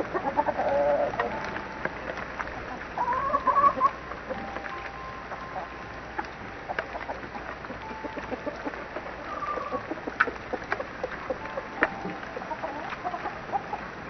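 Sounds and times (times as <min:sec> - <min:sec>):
chickens pecking clicks: 0:00.0 - 0:13.8
chickens calling: 0:00.0 - 0:14.0.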